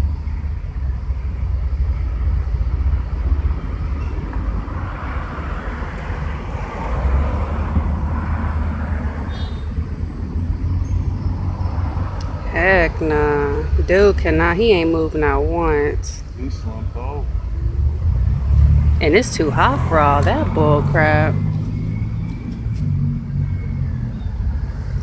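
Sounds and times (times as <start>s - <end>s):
street traffic rumble: 0.0s - 25.0s
vehicle passing: 0.0s - 25.0s.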